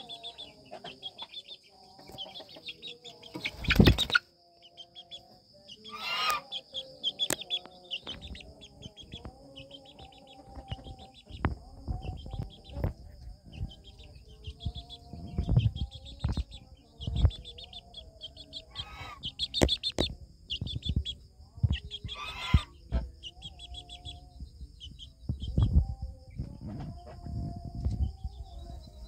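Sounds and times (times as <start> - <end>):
high chirping: 0.0 - 29.0.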